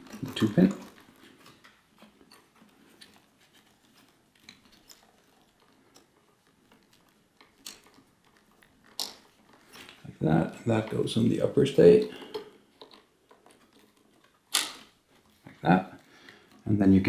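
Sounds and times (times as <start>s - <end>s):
wiring rustling: 0.0s - 17.0s.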